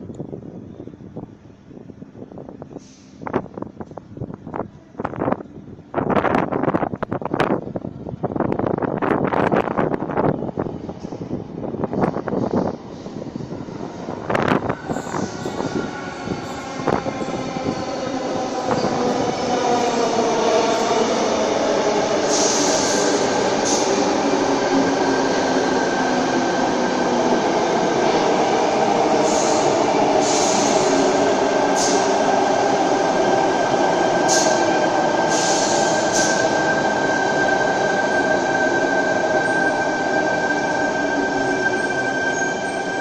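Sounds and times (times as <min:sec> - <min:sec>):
electric train whine: 0:03.2 - 0:43.0.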